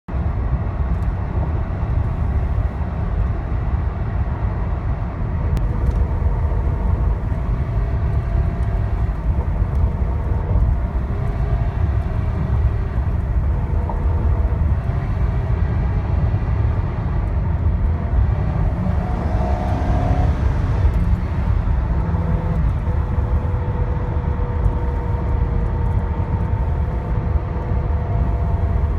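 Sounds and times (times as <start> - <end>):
car whirring with whining tones: 0.1 - 28.9.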